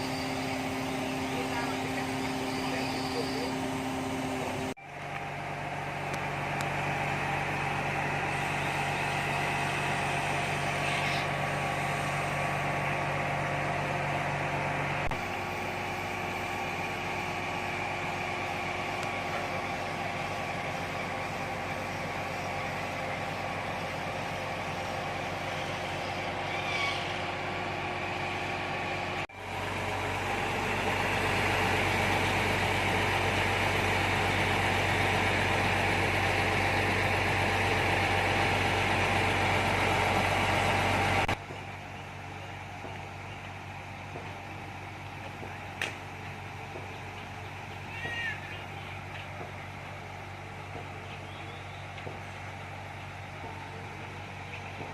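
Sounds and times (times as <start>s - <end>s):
truck engine humming: 0.0s - 54.9s.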